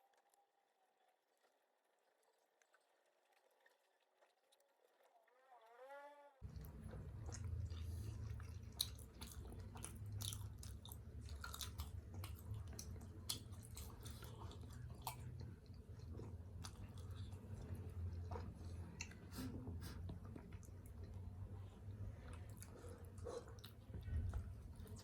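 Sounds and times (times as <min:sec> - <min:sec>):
wet chewing smacks: 0:01.3 - 0:05.8, 0:06.4 - 0:25.0.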